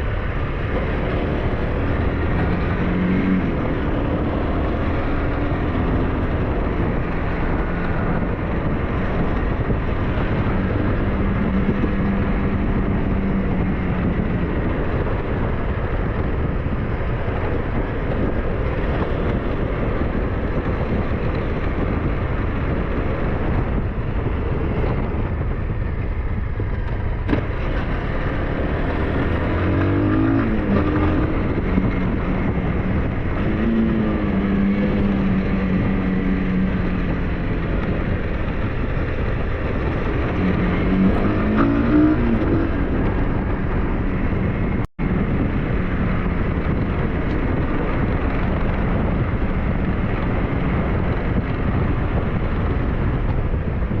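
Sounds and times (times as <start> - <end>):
scooter engine running: 0.0 - 54.0
wind and road noise: 0.0 - 54.0.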